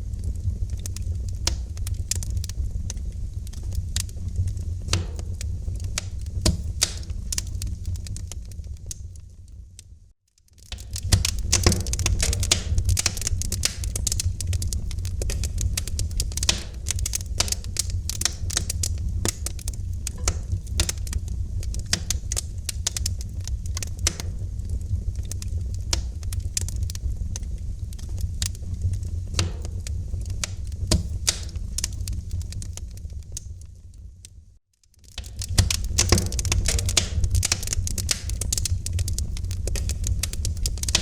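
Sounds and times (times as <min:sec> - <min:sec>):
low rumble of flames: 0:00.0 - 0:41.0
wood fire crackling: 0:00.0 - 0:41.0.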